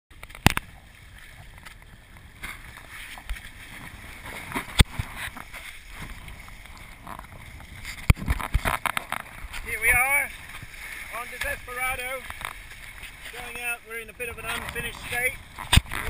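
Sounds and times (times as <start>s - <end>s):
rushing water: 0.1s - 16.0s
wind: 0.1s - 16.0s.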